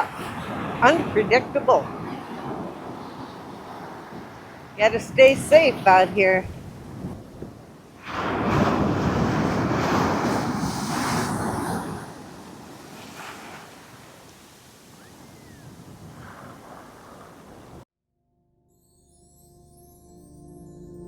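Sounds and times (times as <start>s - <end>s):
surf breaking: 0.0s - 17.8s
wind buffeting microphone: 0.0s - 17.8s.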